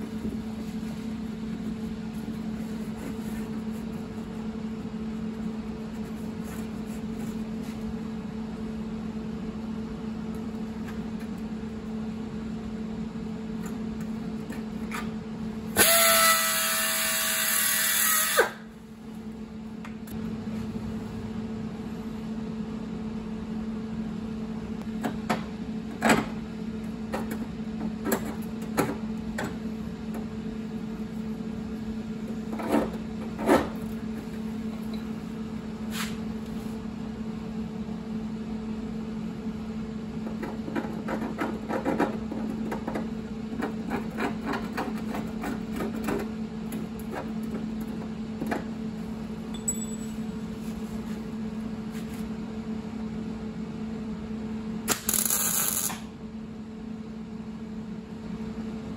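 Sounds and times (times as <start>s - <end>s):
steady machine hum: 0.0s - 58.9s.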